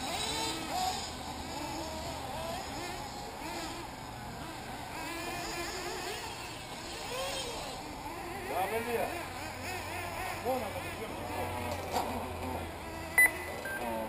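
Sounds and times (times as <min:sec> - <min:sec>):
model buggy engines whining: 0:00.0 - 0:14.0.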